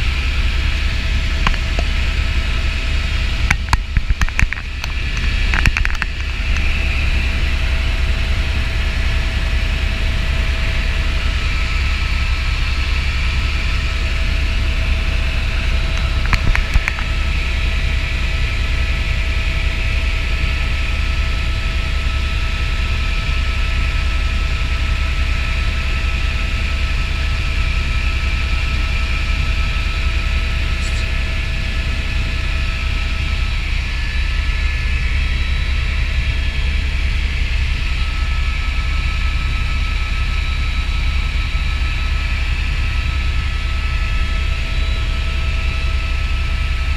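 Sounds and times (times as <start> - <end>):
helicopter rotor and turbine: 0.0 - 46.9.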